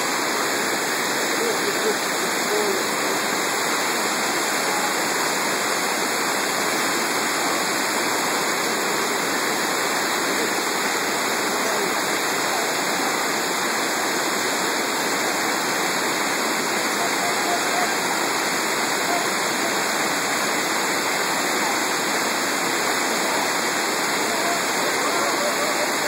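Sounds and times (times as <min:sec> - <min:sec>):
river rapids rushing: 0:00.0 - 0:26.0.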